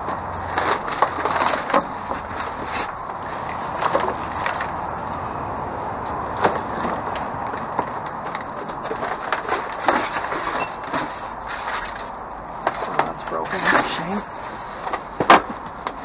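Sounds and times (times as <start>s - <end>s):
rummaging through goods in dumpster: 0.0s - 16.0s.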